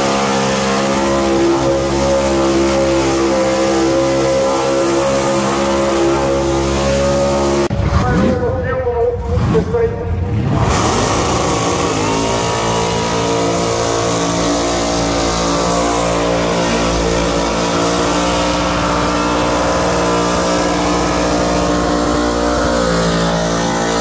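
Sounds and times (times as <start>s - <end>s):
car engine revving high: 0.0s - 8.6s, 9.2s - 24.0s.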